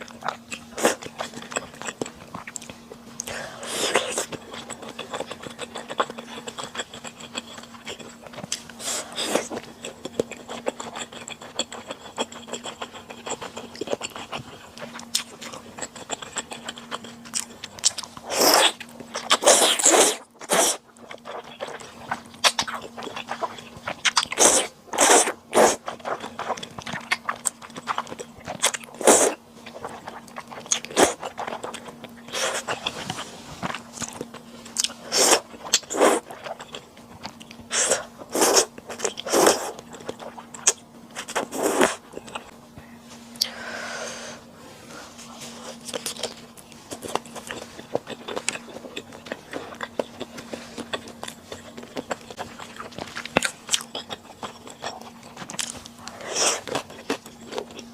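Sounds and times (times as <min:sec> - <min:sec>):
chewing and biting: 0:00.0 - 0:42.5, 0:45.4 - 0:57.9.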